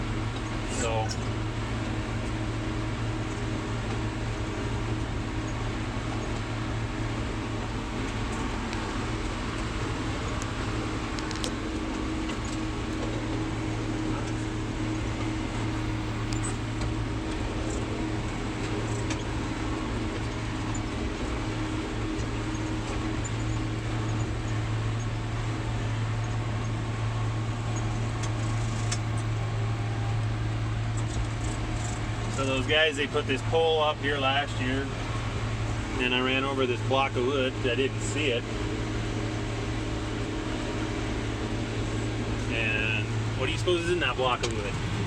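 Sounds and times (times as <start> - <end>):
mowing machine engine running: 0.0 - 45.0.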